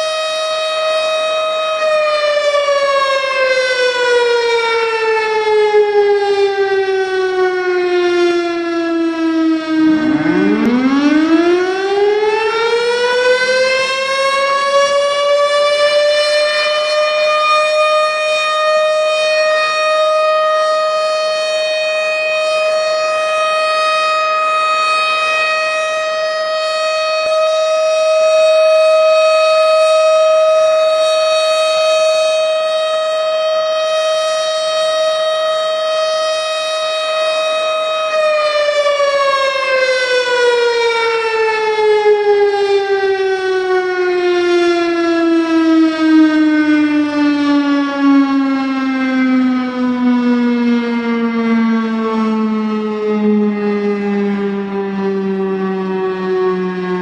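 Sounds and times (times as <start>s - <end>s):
siren wailing: 0.0s - 57.0s.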